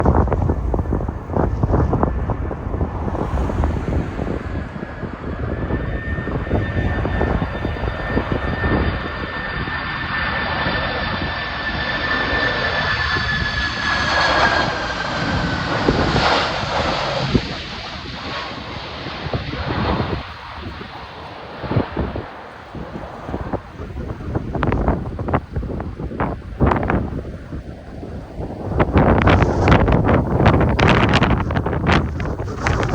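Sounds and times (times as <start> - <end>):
jet engines whining: 0.0 - 32.9
wind buffeting microphone: 0.0 - 32.9.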